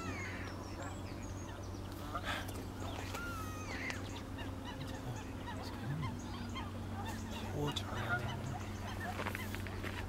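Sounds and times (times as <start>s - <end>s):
distant waterbirds calling: 0.0s - 10.0s.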